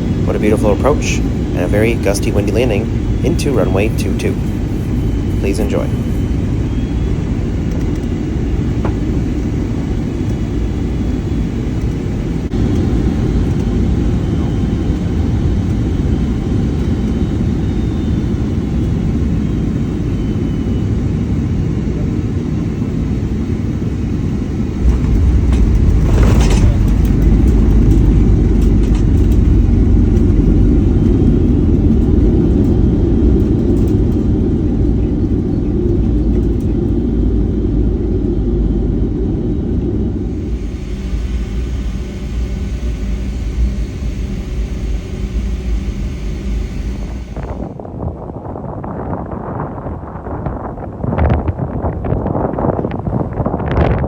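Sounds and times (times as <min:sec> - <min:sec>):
aircraft cabin engine rumble: 0:00.0 - 0:54.0.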